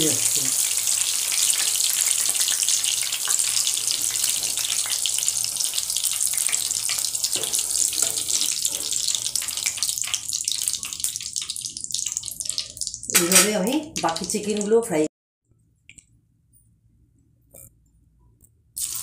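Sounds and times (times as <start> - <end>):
chicken deep-frying in hot oil: 0.0 - 15.1, 18.8 - 19.0.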